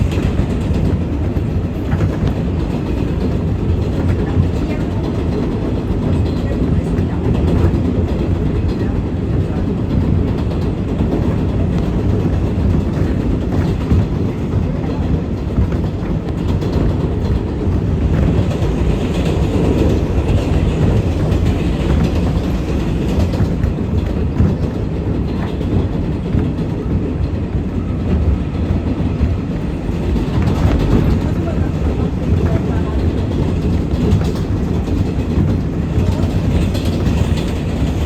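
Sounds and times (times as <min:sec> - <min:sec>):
clacks over rail joints: 0:00.0 - 0:38.0
subway wheels rumbling on rail: 0:00.0 - 0:38.0.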